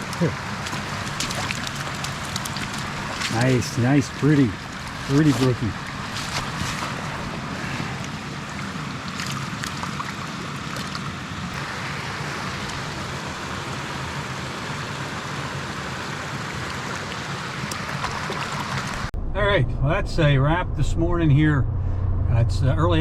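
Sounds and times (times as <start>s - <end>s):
stream water rushing over rocks: 0.0s - 19.1s.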